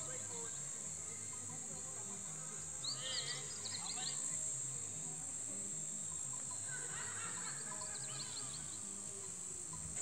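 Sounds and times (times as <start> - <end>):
crickets droning: 0.0 - 10.0.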